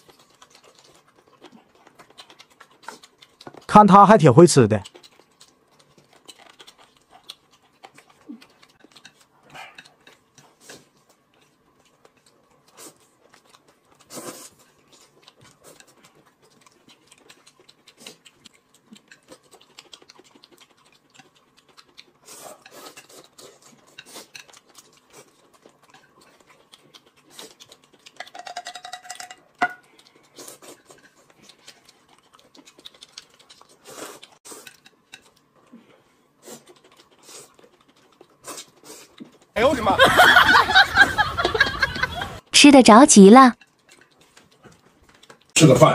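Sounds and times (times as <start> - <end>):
chewing and slurping noodles: 0.0 - 3.7, 4.8 - 39.6, 43.6 - 45.8.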